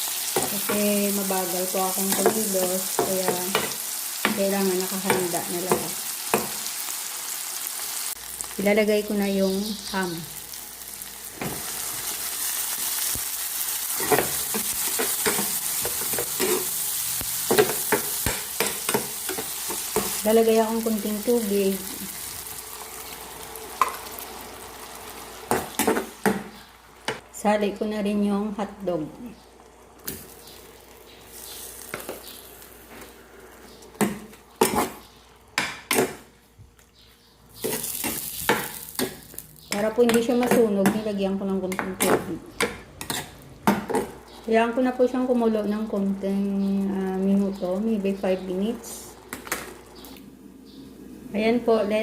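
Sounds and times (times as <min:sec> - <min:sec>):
ham sizzling in a pan: 0:00.0 - 0:36.4, 0:37.5 - 0:41.7, 0:42.8 - 0:51.2.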